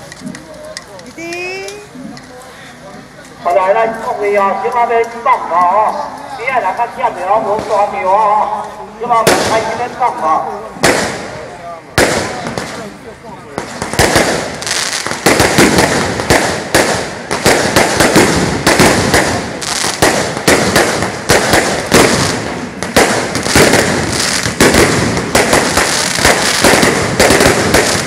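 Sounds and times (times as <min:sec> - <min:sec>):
firecrackers banging: 0:00.0 - 0:28.0.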